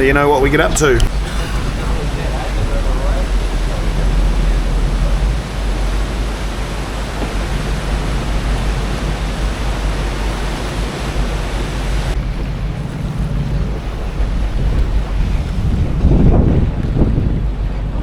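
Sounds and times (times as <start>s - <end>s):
deep rumble: 0.0s - 18.0s
wind and water rushing: 0.0s - 18.0s.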